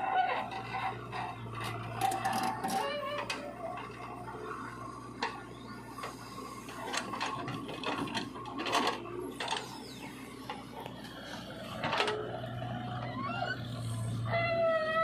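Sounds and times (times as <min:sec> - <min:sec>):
soil dumped with knocks and rattles: 0:00.0 - 0:12.8
diesel engine running: 0:00.0 - 0:15.0.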